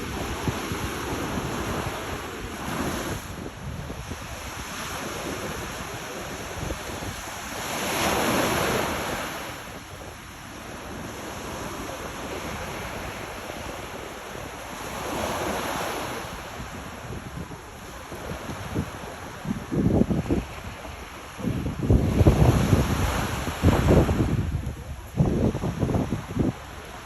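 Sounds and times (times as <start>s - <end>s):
sea waves washing ashore: 0.0s - 27.0s
wind buffeting microphone: 0.0s - 27.0s.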